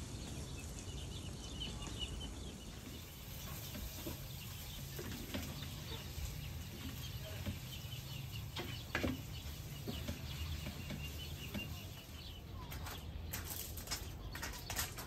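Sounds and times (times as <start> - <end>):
small birds chirping: 0.0 - 15.0
hens clucking: 1.7 - 15.0.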